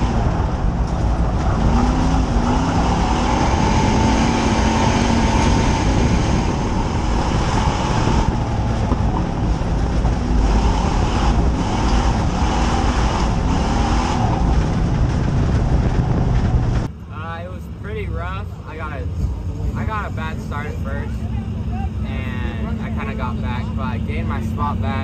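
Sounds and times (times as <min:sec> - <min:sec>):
race car engine at speed: 0:00.0 - 0:25.0.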